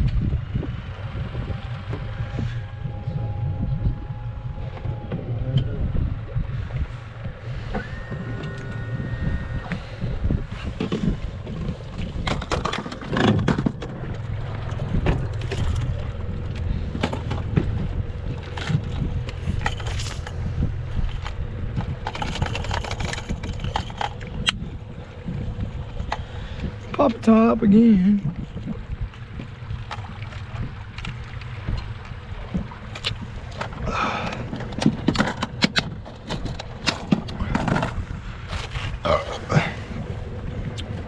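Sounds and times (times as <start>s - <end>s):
boat motor rumble: 0.0s - 41.0s
wind on microphone: 0.0s - 41.0s.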